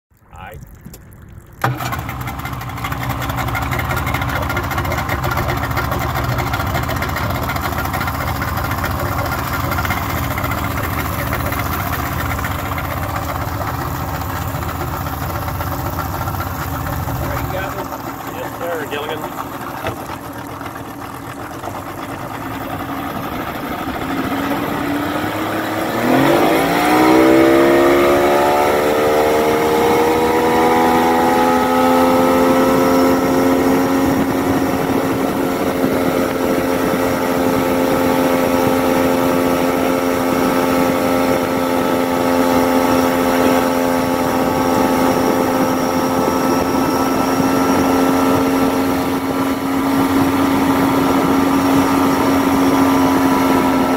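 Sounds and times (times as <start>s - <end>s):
outboard motor revving: 0.3s - 53.9s.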